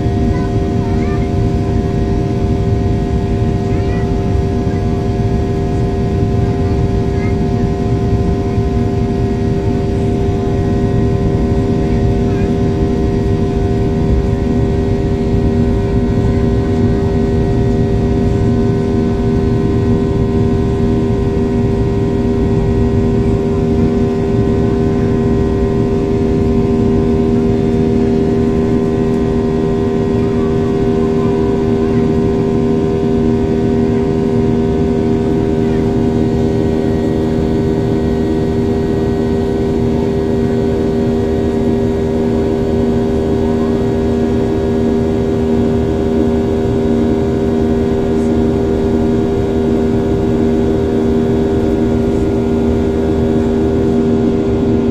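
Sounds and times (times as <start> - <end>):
jet engines droning in cabin: 0.0 - 54.9.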